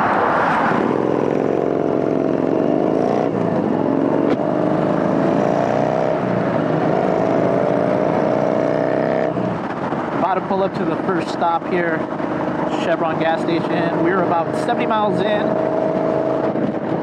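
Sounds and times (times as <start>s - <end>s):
motorcycle engine accelerating: 0.0s - 17.0s
wind rush: 0.0s - 17.0s.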